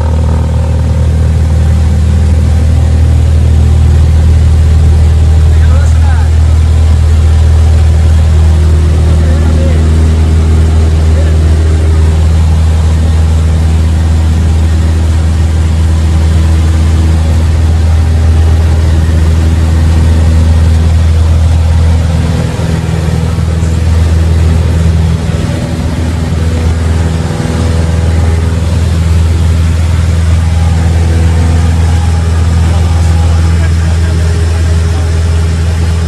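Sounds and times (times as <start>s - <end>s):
propeller plane engine droning: 0.0s - 36.0s.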